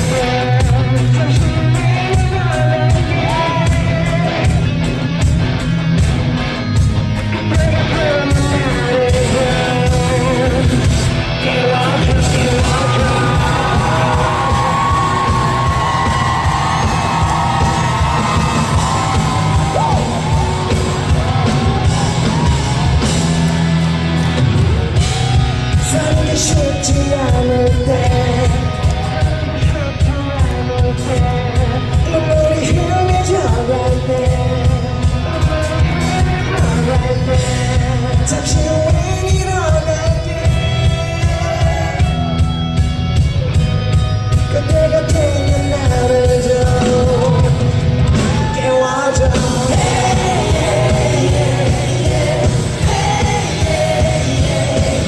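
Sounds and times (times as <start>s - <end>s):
voices singing and yelling: 0.0s - 4.8s, 7.3s - 42.6s, 44.6s - 55.0s
live band playing: 0.0s - 55.0s
steady drum beat: 0.0s - 55.0s.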